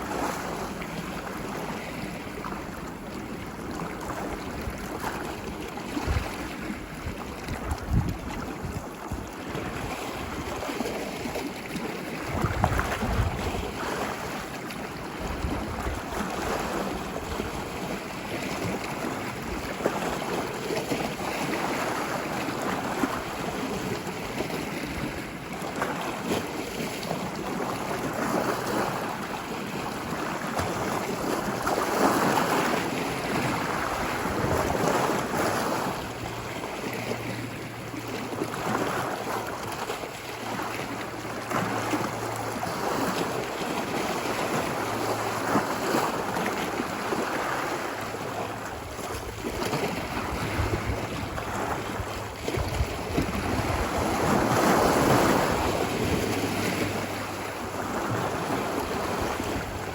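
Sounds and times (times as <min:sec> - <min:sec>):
ocean waves washing ashore: 0:00.0 - 0:59.9.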